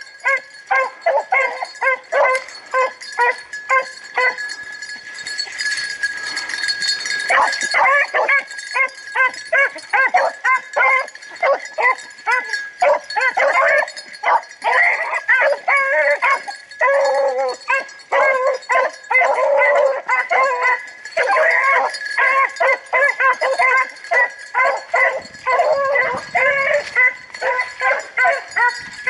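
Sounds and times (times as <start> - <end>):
hounds baying and yelping: 0.0 - 29.0.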